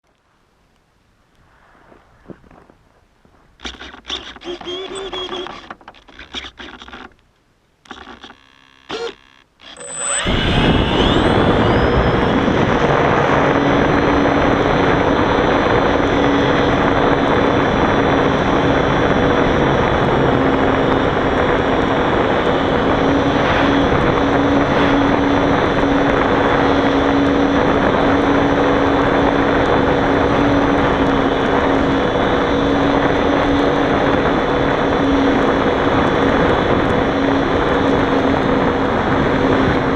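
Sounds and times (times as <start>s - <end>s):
model plane motor whining: 3.6s - 7.2s, 7.8s - 39.9s
propeller rushing noise: 7.9s - 39.9s.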